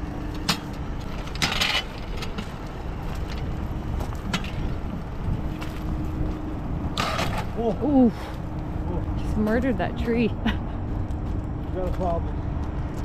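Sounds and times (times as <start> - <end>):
bike rumbling along a rail: 0.0 - 13.0.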